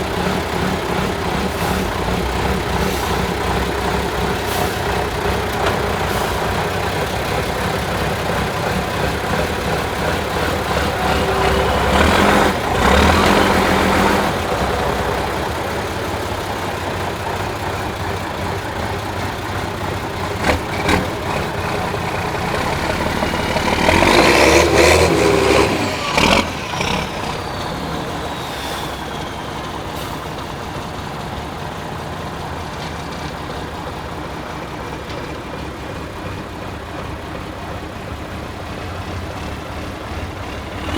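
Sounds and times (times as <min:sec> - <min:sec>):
diesel truck engine revving: 0:00.0 - 0:40.9.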